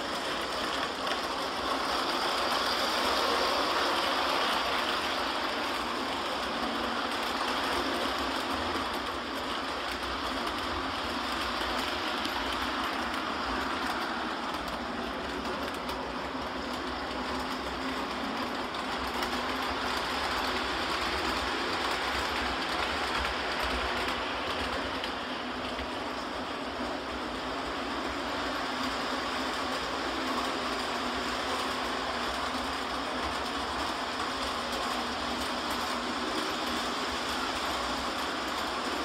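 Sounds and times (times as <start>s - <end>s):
model train wheels clattering: 0.0s - 39.0s.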